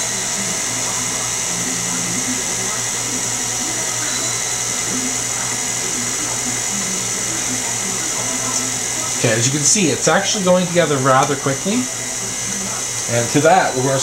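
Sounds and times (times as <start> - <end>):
stand mixer motor running: 0.0 - 14.0.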